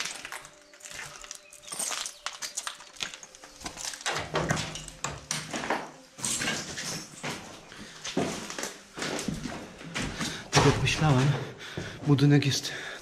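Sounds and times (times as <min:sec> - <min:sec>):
footsteps on debris: 0:00.0 - 0:12.4.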